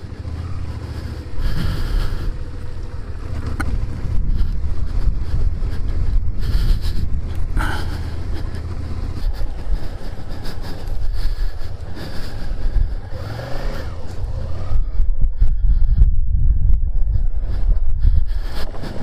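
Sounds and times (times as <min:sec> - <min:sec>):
tyres on wet road: 0:00.0 - 0:15.2, 0:17.1 - 0:19.0
motorcycle engine rumble: 0:00.0 - 0:19.0
wind rushing over microphone: 0:00.0 - 0:19.0.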